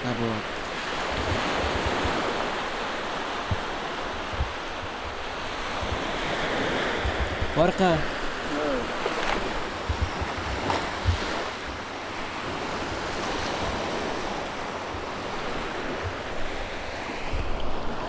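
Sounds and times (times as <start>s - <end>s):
surf breaking on a beach: 0.0s - 18.0s
wind buffeting microphone: 0.0s - 18.0s.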